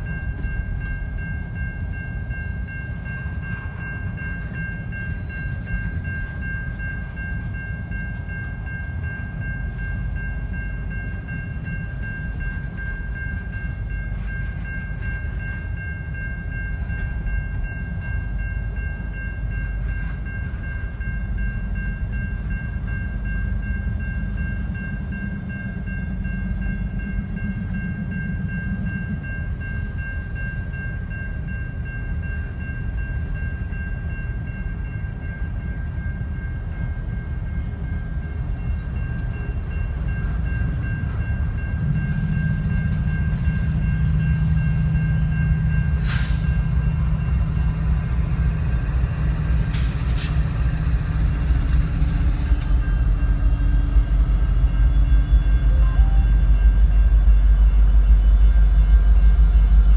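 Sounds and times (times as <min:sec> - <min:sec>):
diesel locomotives: 0:00.0 - 0:59.9
freight train rumbling past: 0:00.0 - 0:59.9.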